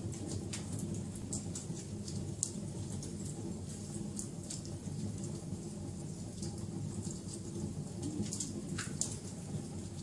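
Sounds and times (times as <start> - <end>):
fire crackling and popping: 0.0 - 10.0
low roar of flames: 0.0 - 10.0.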